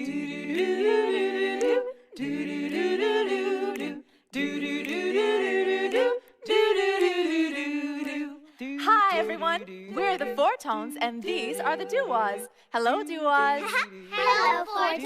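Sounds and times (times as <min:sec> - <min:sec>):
vocal group singing a cappella: 0:00.0 - 0:15.0.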